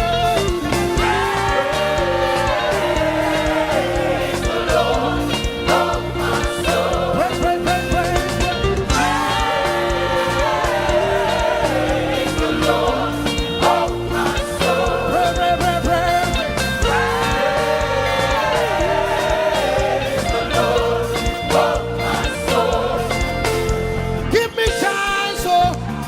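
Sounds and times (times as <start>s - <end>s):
gospel choir with band: 0.0s - 26.0s.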